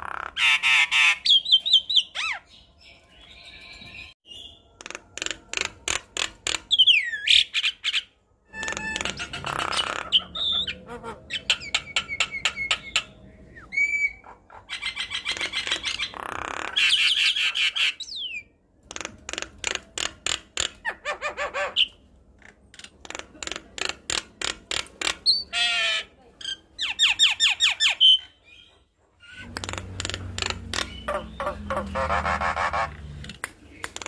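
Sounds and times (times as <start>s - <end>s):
myna bird singing: 0.1s - 18.6s, 25.0s - 34.0s.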